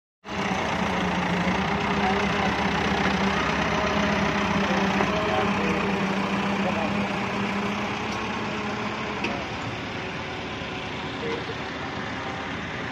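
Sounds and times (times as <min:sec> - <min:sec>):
tractor diesel engines running: 0:00.2 - 0:12.9.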